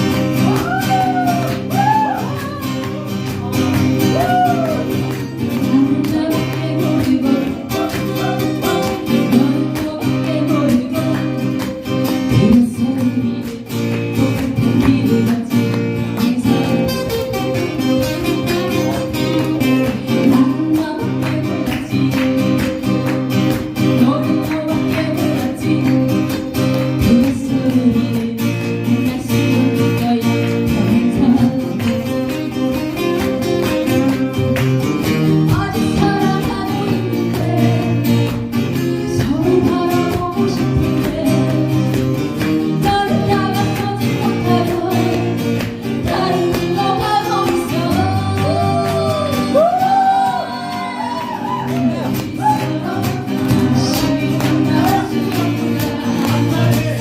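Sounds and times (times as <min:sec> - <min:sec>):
person singing: 0:00.0 - 0:32.7, 0:35.4 - 0:57.0
acoustic guitar strumming: 0:00.0 - 0:57.0.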